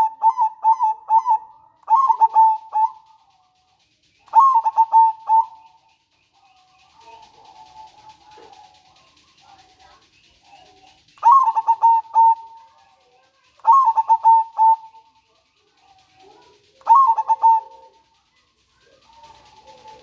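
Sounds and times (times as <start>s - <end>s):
dove cooing: 0.0s - 3.6s, 4.2s - 20.0s.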